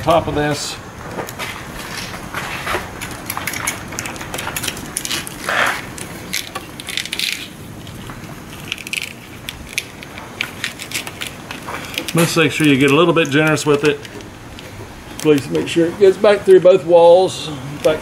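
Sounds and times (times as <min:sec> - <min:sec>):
plastic rustle: 0:01.0 - 0:18.0.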